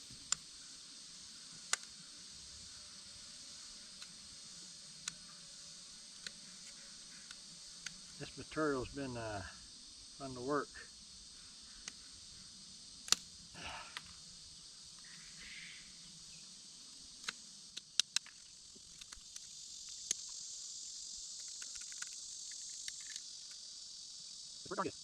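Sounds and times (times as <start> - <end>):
insects chorus: 0.0 - 25.0.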